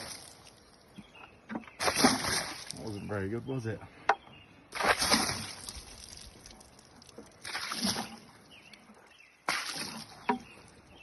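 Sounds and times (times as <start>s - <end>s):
water splashing onto wood: 0.0s - 3.2s, 4.7s - 11.0s.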